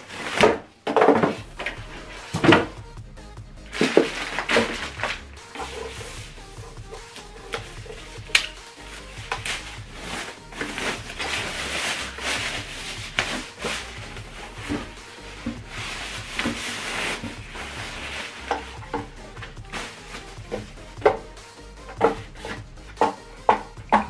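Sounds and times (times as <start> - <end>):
protective wrapping crinkling: 0.0 - 2.8, 3.6 - 23.1.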